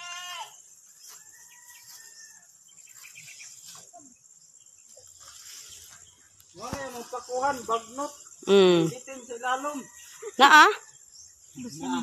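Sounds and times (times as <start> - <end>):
insects trilling: 0.0 - 12.0
fern fronds rustling: 0.6 - 10.4.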